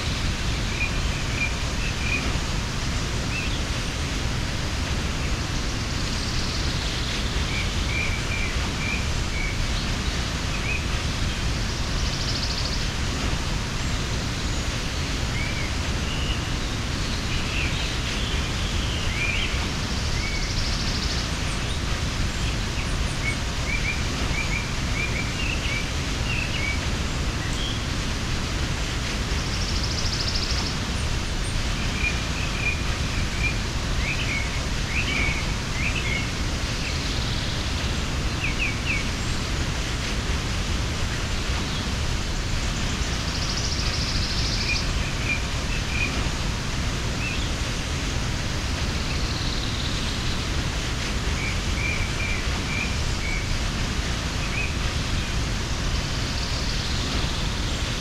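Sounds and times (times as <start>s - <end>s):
small birds chirping: 0.0s - 58.0s
waterfall rushing: 0.0s - 58.0s.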